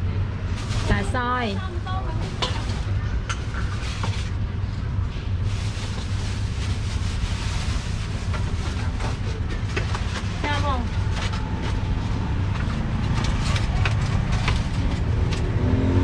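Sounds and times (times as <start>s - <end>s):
low rumble of passing traffic: 0.0s - 16.0s.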